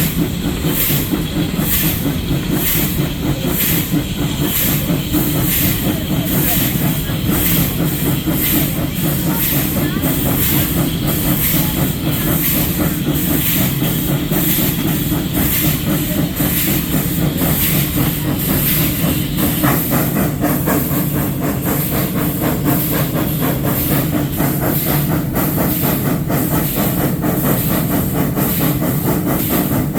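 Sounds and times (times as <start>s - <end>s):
steam hiss: 0.0s - 29.9s
steam locomotive exhaust beats: 0.0s - 29.9s
wheels clattering on rails: 0.0s - 29.9s.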